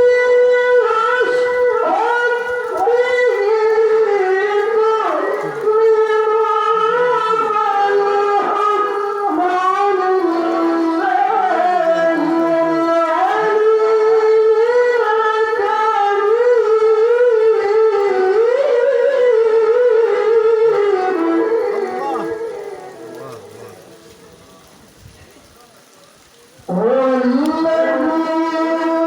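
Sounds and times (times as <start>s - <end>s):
man reciting melodically: 0.0s - 29.0s.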